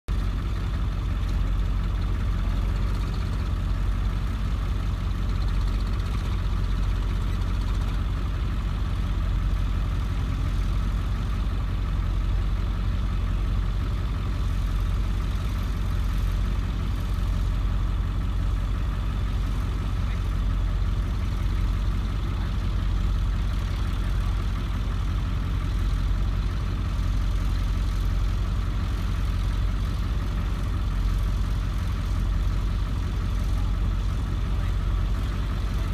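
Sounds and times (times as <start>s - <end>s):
diesel engine droning: 0.1s - 35.9s.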